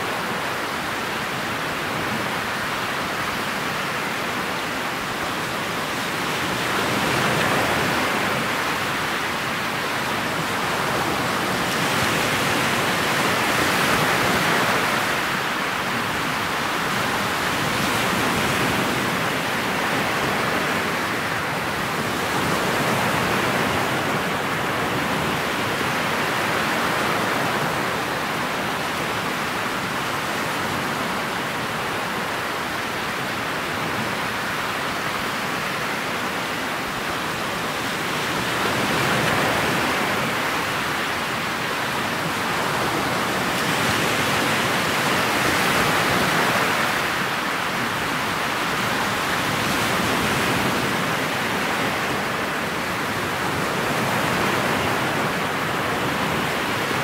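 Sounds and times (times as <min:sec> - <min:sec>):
water rushing along hull: 0:00.0 - 0:57.0.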